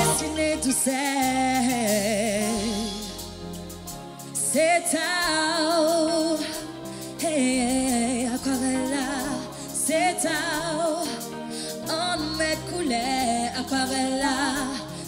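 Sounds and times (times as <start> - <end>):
person singing with vibrato: 0.0 - 3.5, 4.4 - 15.0
live band music: 0.0 - 15.0.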